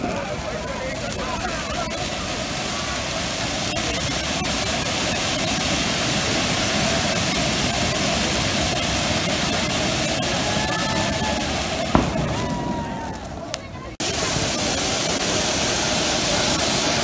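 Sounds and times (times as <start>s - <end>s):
faint crackles: 0.0s - 17.0s
firework fountain hissing: 0.0s - 17.0s.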